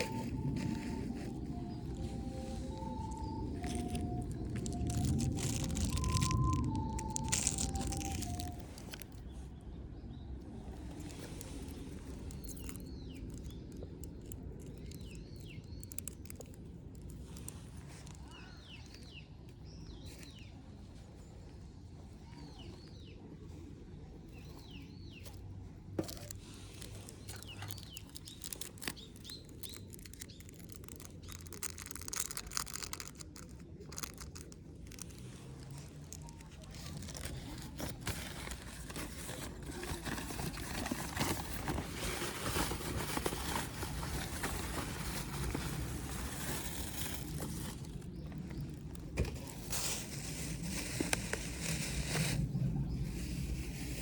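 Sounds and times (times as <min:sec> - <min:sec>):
crackling: 0:00.0 - 0:09.4, 0:10.5 - 0:19.2, 0:25.2 - 0:52.7
small birds chirping: 0:00.0 - 0:51.0
low outdoor rumble: 0:00.0 - 0:54.0.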